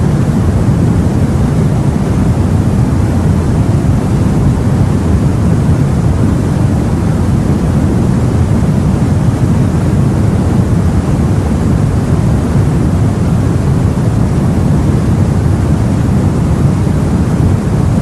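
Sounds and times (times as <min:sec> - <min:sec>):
open sea and wind rumble: 0:00.0 - 0:18.0.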